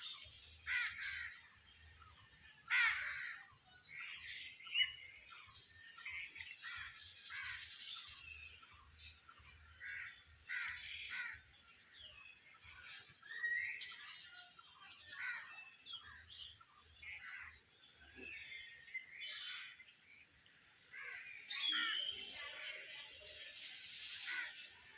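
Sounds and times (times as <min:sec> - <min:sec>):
birds chirping: 0:00.0 - 0:24.9
steady high-pitched hiss: 0:00.0 - 0:24.9.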